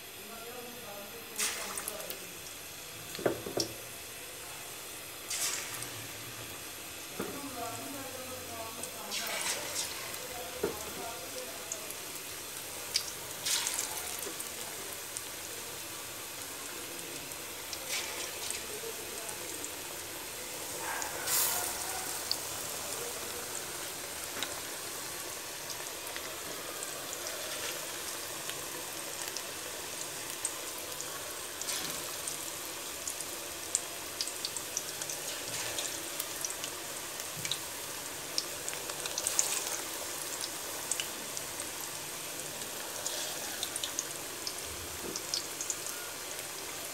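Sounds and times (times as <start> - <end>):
food deep-frying in hot oil: 0.0 - 46.9.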